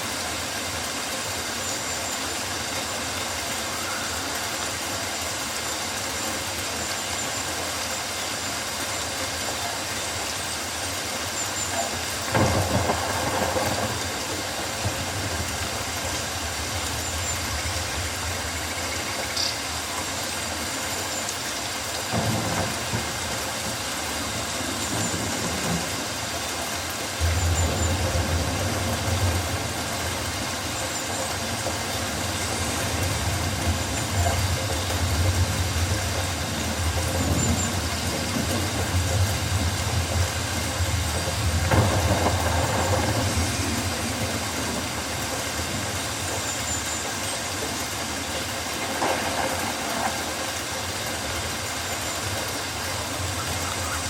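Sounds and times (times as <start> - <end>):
rain on foliage: 0.0 - 54.0.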